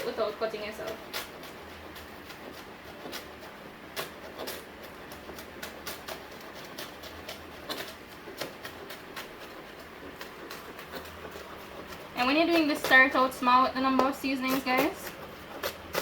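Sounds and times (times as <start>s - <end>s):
knife chopping on cutting board: 0.8s - 16.0s.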